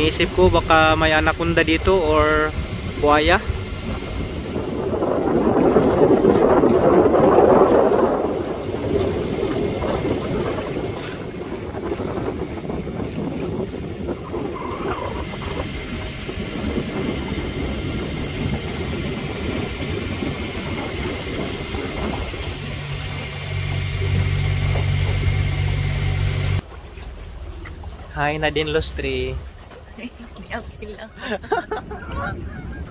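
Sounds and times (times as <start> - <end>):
wind on microphone: 0.0 - 26.6, 27.9 - 32.9
motorboat engine drone: 0.0 - 32.9
water noise: 0.0 - 32.9.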